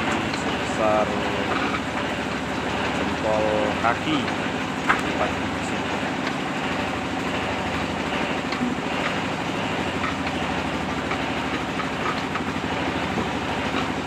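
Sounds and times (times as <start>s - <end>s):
brick extruding machine droning: 0.0s - 14.0s.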